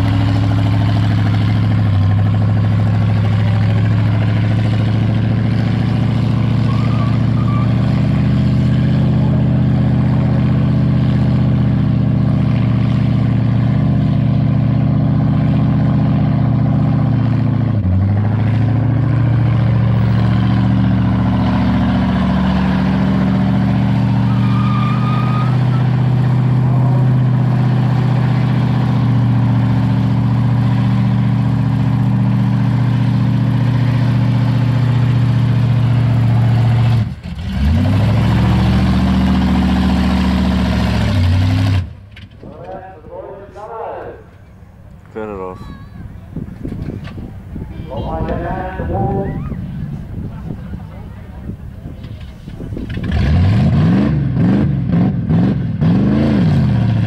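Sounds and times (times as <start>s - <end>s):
car engine revving in burnout: 0.0s - 42.0s, 48.2s - 57.0s.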